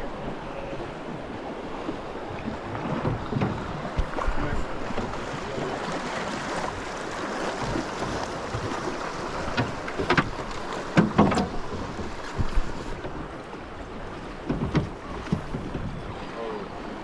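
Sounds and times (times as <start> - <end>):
river water rushing: 0.0 - 17.0
wind buffeting microphone: 1.1 - 16.3.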